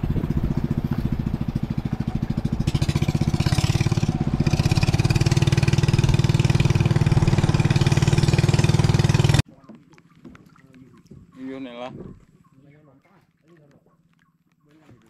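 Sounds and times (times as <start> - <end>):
small boat motor humming: 0.0 - 12.5.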